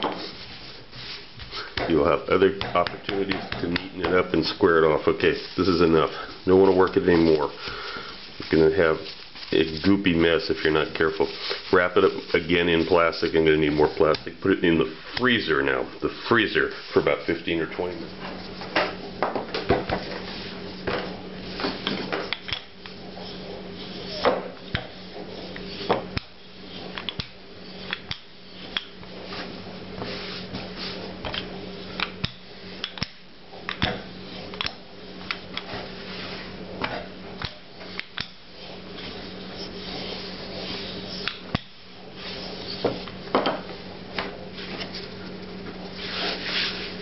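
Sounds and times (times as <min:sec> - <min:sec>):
rolling pin rolling dough: 0:00.0 - 0:47.0
steady low hum: 0:00.0 - 0:47.0.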